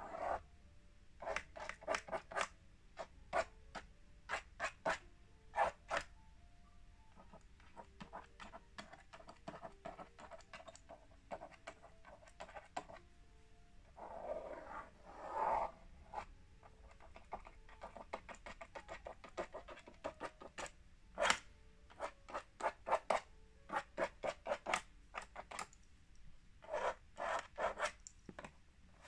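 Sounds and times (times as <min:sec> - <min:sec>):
stylus scratching drawing board: 0:00.0 - 0:00.4, 0:01.2 - 0:06.1, 0:07.2 - 0:13.0, 0:14.0 - 0:25.7, 0:26.6 - 0:28.0.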